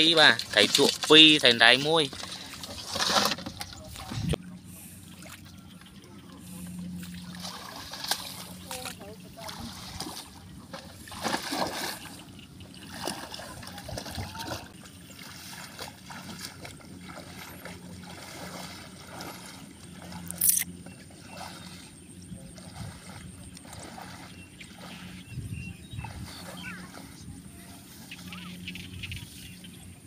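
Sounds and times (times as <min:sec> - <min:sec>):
feet splashing through shallow water: 0:00.0 - 0:29.9.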